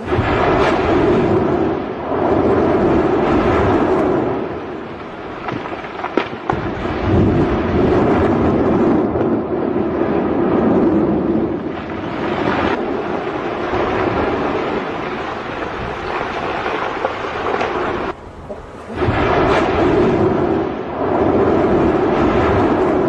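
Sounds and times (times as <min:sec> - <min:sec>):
volcano rumbling roar: 0:00.0 - 0:23.0.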